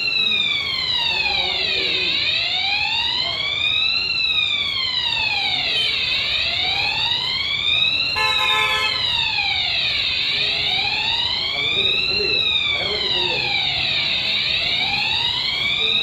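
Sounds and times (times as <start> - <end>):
fire alarm siren wailing: 0.0 - 16.0.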